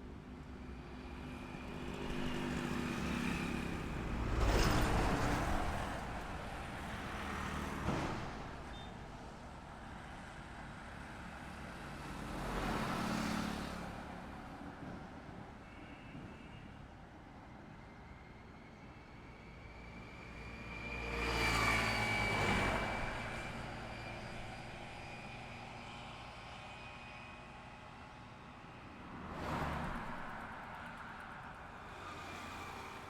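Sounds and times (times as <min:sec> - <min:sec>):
vehicles passing on highway: 0:00.0 - 0:33.0.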